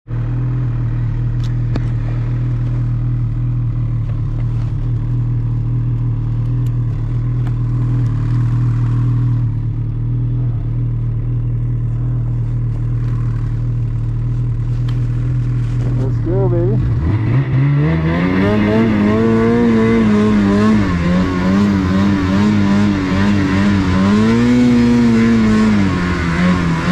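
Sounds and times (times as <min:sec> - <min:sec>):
snowmobile engine running: 0:00.1 - 0:26.9.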